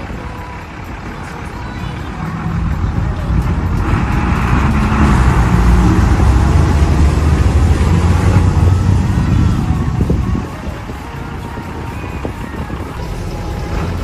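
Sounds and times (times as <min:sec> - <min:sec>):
tractor engines under load: 0:00.0 - 0:14.0.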